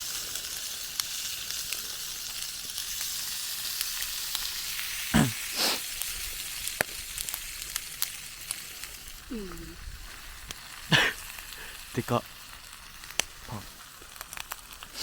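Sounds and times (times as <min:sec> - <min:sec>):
campfire crackling and popping: 0:00.0 - 0:15.0
fire hissing: 0:00.0 - 0:15.0.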